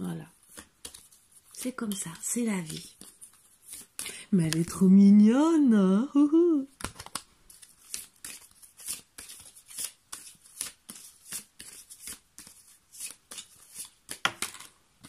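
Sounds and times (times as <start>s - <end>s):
cards shuffling: 0.4s - 4.8s, 6.7s - 14.8s.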